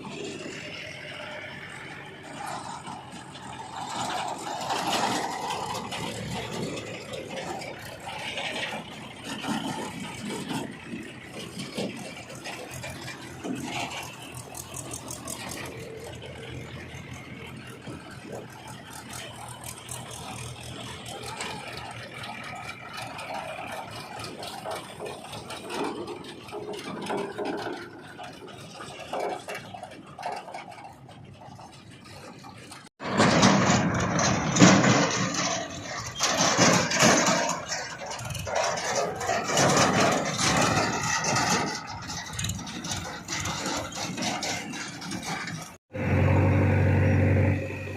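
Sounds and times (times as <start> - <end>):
diesel engine running: 0.0 - 47.9
machinery rattling: 0.0 - 47.9.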